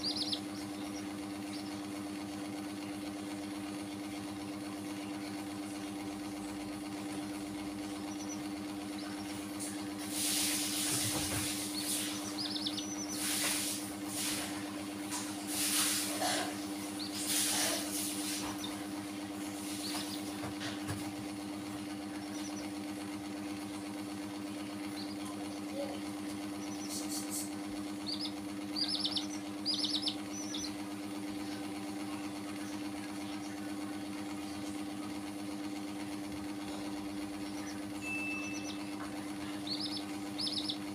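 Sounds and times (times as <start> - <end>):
chicks peeping: 0.0 - 4.3, 6.6 - 33.7, 36.3 - 40.9
machine hum: 0.0 - 40.9.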